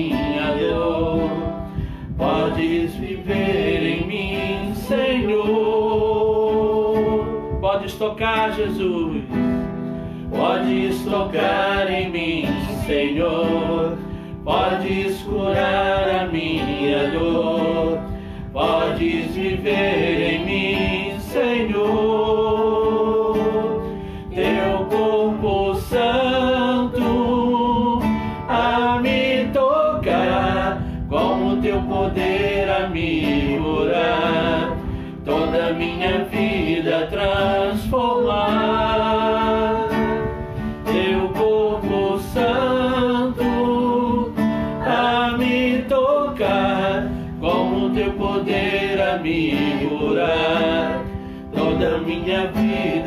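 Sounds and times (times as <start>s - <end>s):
man singing a hymn: 0.0s - 9.5s, 10.3s - 53.0s
strummed acoustic guitar: 0.0s - 53.0s.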